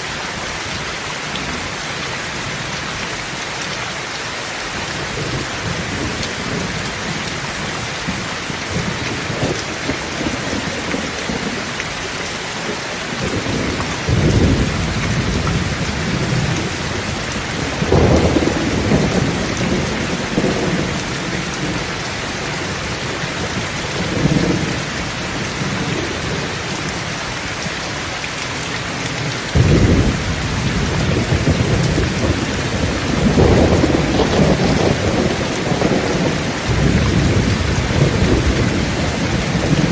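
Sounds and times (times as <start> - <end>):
heavy rain: 0.0 - 39.9
thunder rumbling: 4.9 - 27.2, 29.2 - 39.9.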